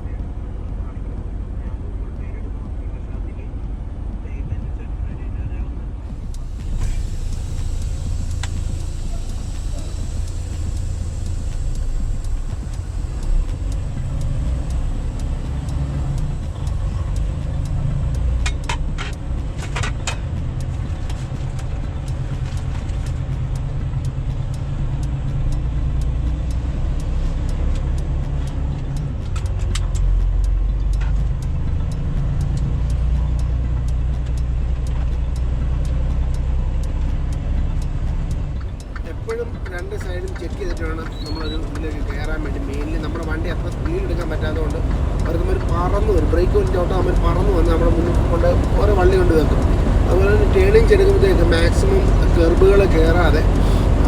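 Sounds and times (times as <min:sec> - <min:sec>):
diesel truck engine rumbling: 0:00.0 - 0:54.0
sharp clicks: 0:06.1 - 0:54.0.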